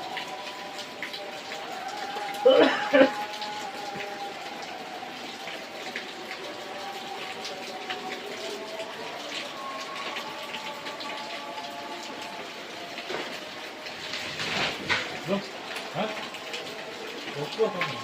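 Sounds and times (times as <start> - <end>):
rain hiss: 0.0 - 18.0
raindrop ticks: 0.0 - 18.0.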